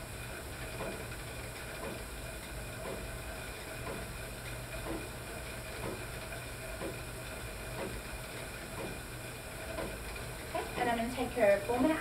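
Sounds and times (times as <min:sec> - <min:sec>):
exercise bike whirring: 0:00.0 - 0:12.0
faint rhythmic pedal sound: 0:00.0 - 0:12.0.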